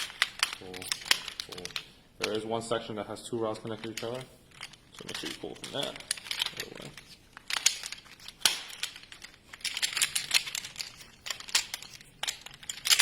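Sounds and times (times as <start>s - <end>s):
frame rods clicking and scraping: 0.0s - 2.4s, 3.6s - 13.0s.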